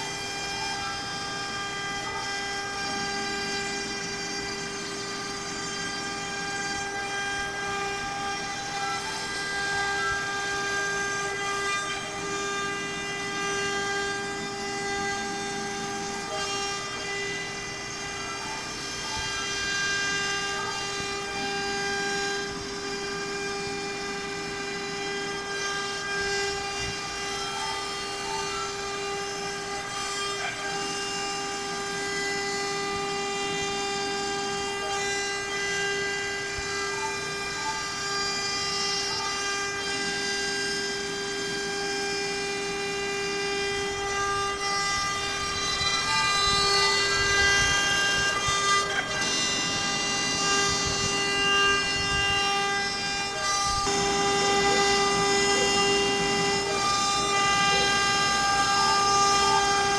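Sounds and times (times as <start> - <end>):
bit cutting plywood: 0.0 - 59.9
router spindle whine: 0.0 - 59.9.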